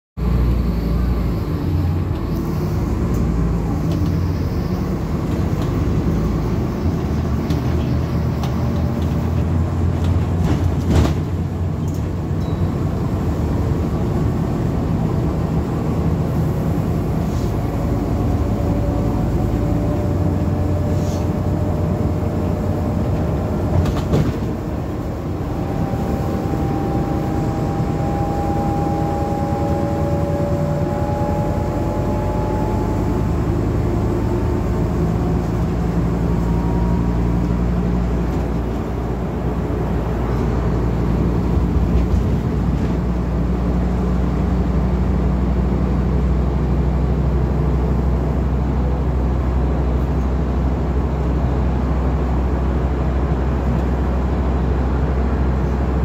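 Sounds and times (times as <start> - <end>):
bus engine hum: 0.2 - 56.0
rising engine whine: 0.2 - 56.0
bus body rattling: 1.5 - 56.0.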